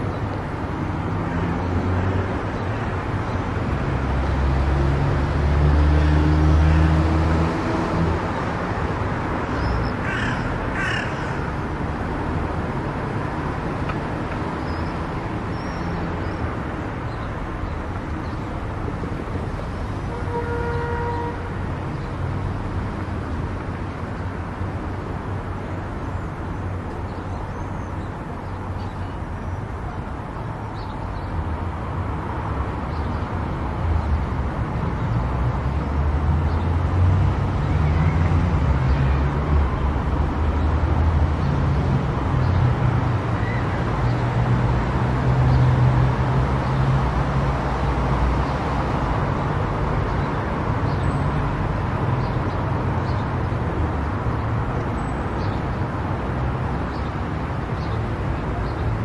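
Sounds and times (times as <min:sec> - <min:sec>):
car road and tyre noise: 0:00.0 - 0:59.0.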